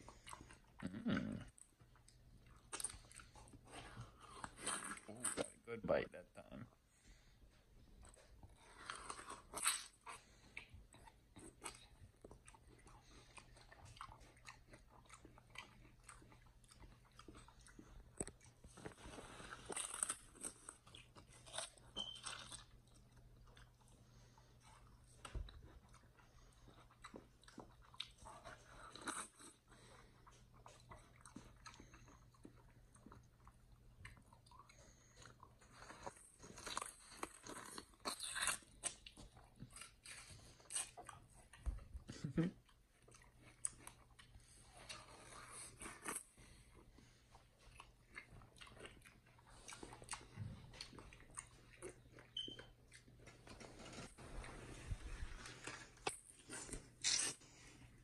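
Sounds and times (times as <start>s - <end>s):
chimpanzee crunching watermelon: 8.1s - 54.7s, 55.4s - 58.0s.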